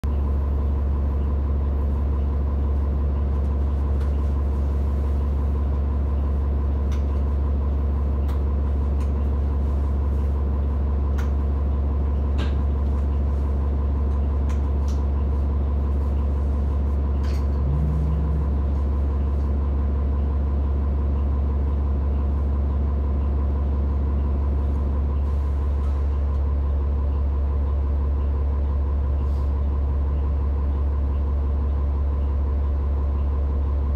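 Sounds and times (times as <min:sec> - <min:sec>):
heavy vehicle engine idling: 0:00.0 - 0:33.9.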